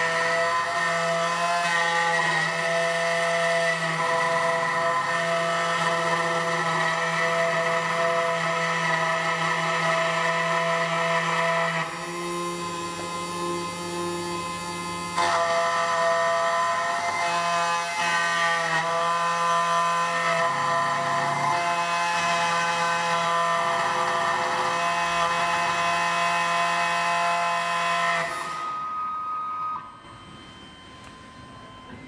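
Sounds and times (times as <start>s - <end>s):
key cutting machine whine: 0.0s - 32.0s.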